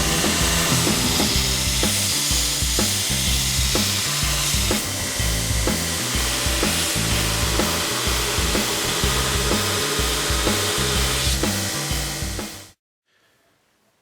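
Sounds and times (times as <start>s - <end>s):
background music with beat: 0.0s - 12.8s
power tool hissing: 0.0s - 12.8s.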